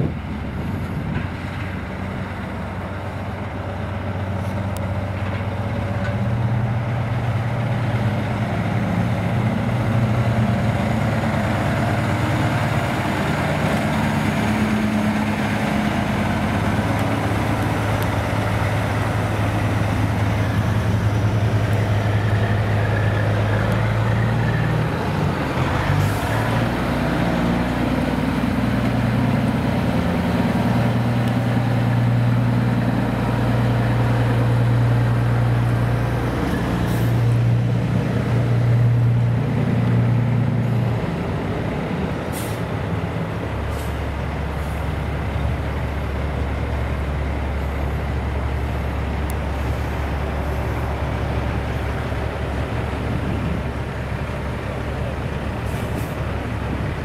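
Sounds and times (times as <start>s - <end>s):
diesel truck engines droning: 0.0s - 57.0s.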